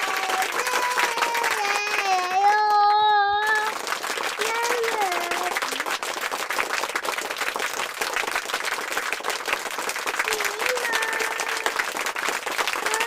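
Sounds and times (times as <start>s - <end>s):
hands clapping: 0.0s - 13.0s.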